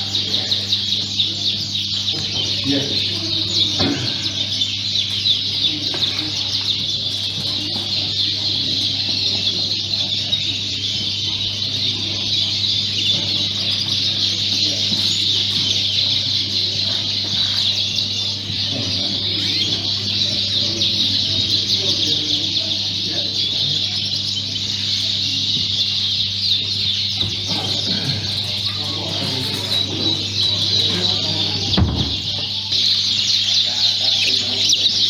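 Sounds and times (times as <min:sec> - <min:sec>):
canaries chirping and singing: 0:00.0 - 0:35.0.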